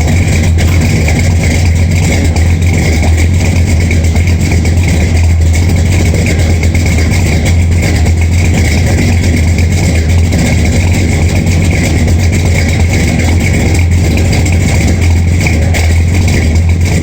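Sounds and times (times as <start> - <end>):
engine idling loudly: 0.0 - 17.0.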